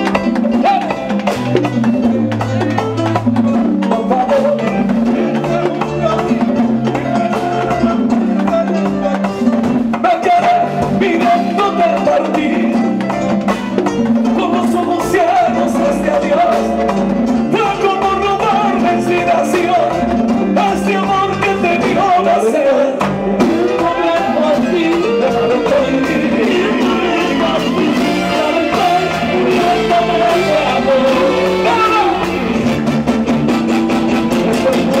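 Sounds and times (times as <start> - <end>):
man singing: 0.0 - 1.3, 2.7 - 13.4, 14.1 - 33.0, 33.9 - 35.0
latin dance band playing: 0.0 - 35.0
timbales and drum kit: 0.0 - 35.0.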